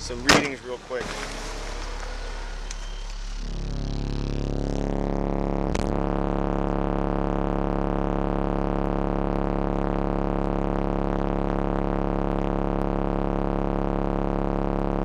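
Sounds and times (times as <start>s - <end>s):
subwoofer low test tone drone: 0.0s - 15.0s.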